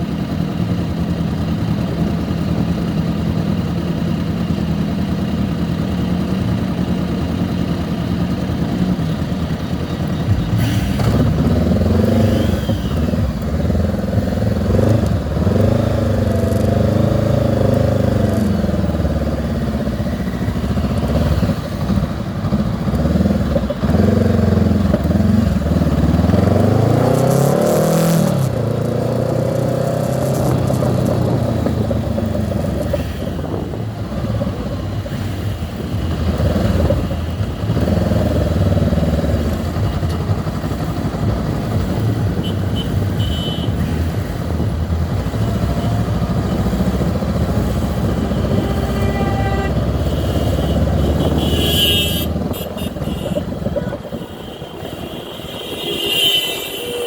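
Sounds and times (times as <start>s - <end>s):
motorcycle engine accelerating: 0.0s - 54.2s.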